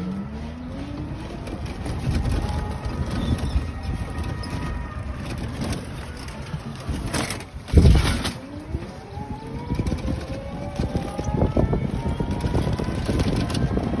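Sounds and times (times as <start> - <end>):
motorised rickshaw driving: 0.0 - 14.0.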